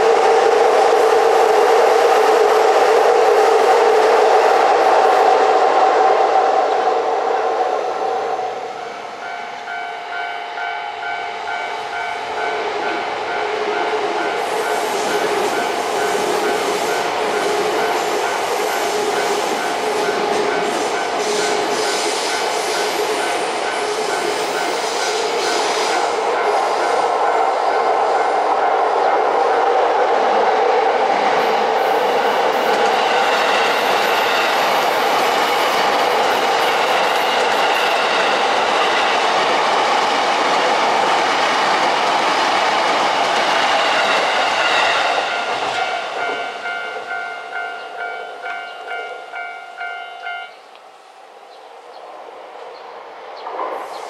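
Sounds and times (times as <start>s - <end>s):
train wheels rumbling on rail: 0.0s - 50.8s, 52.0s - 54.0s.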